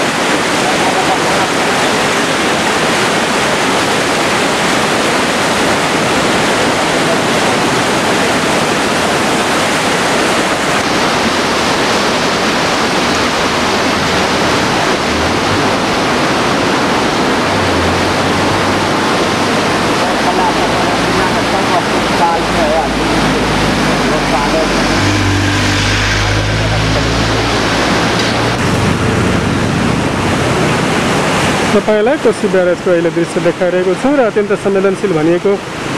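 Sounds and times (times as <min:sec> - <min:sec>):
floodwater rushing through sluice gates: 0:00.0 - 0:35.9.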